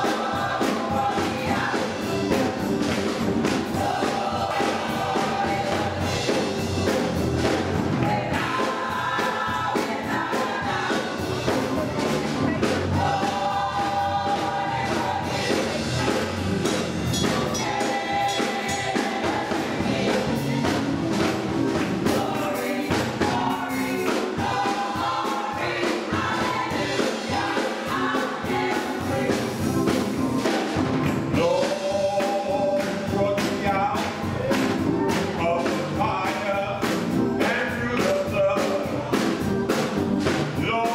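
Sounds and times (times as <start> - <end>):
accompaniment with steady beat: 0.0 - 40.9
gospel choir singing: 0.0 - 40.9.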